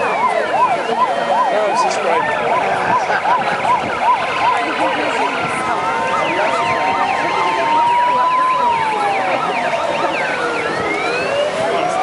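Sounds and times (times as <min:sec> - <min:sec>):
sirens wailing: 0:00.0 - 0:12.0
sirens yelping: 0:00.0 - 0:12.0.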